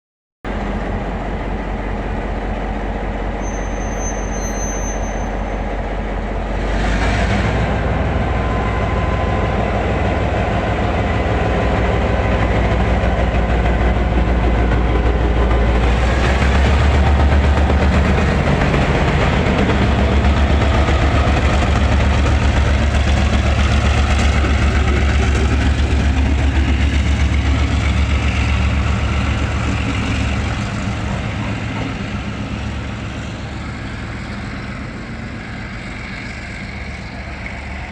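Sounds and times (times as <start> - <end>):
diesel locomotive engine: 0.5 - 37.9.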